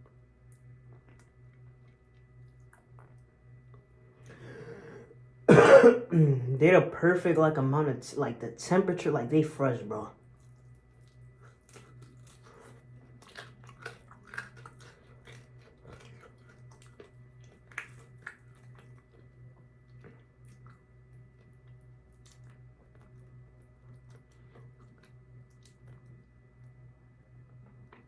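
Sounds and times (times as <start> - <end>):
person chewing crunchy food: 0.0 - 4.8, 10.2 - 28.0
steady low hum: 0.0 - 28.0.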